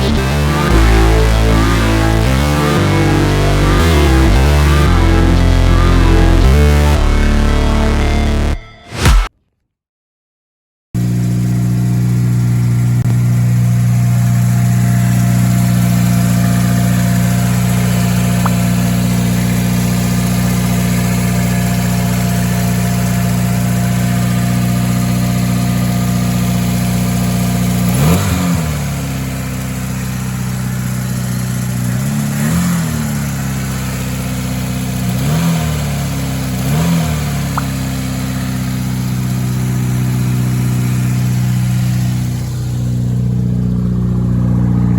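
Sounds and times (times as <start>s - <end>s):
car engine idling and blipped: 0.0s - 9.3s, 11.0s - 44.9s.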